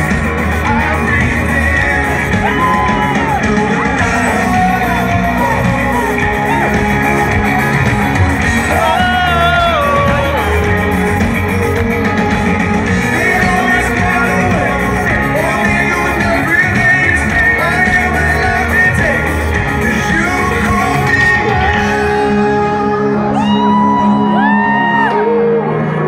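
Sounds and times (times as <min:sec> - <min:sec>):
rock band with sung vocals: 0:00.0 - 0:26.0.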